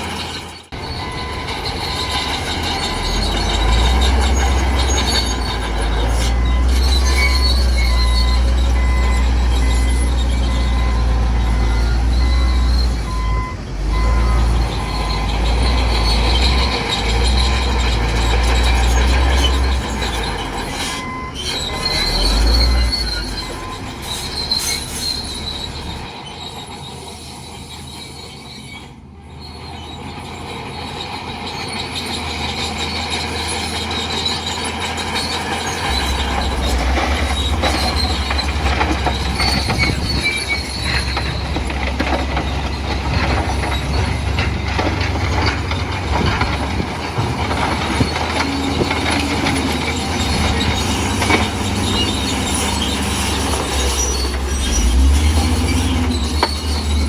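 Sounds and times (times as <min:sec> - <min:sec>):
diesel engine rumble: 0:00.0 - 0:57.0
metal tracks squealing and clattering: 0:00.0 - 0:57.0.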